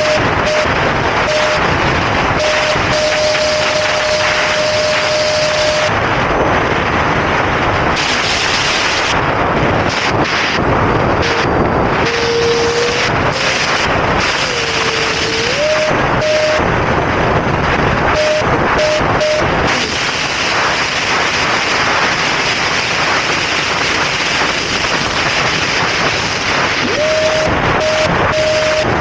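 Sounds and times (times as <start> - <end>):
electric fan jet whining: 0.0 - 29.0
wind noise: 0.0 - 29.0.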